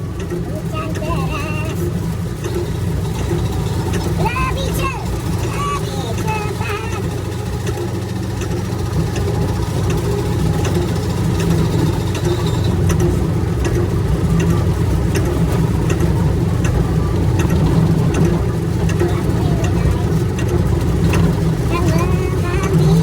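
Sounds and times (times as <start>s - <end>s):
excavator diesel engine running: 0.0s - 23.0s
heavy rain: 0.0s - 23.0s
sharp ticks: 0.1s - 23.0s.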